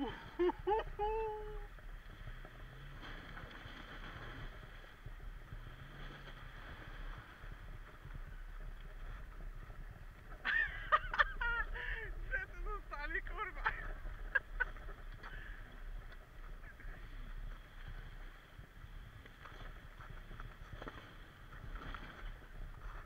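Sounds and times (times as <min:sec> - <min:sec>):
car engine humming: 0:00.0 - 0:23.0.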